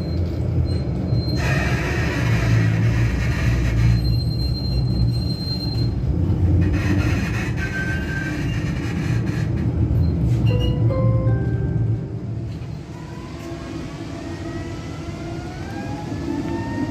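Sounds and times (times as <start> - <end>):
tram wheel squeal: 0.0 - 11.6, 12.4 - 16.9
tram rolling on rails: 0.0 - 16.9.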